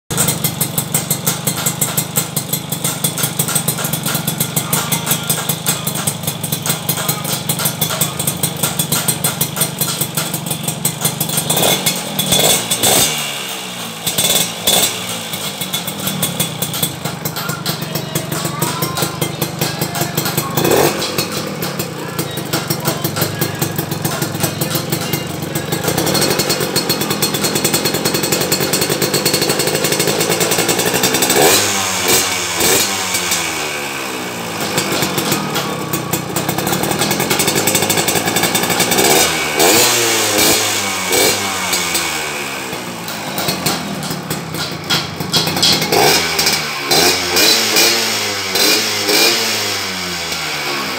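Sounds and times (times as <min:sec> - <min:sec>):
motorcycle engine revving: 0:00.1 - 0:50.9.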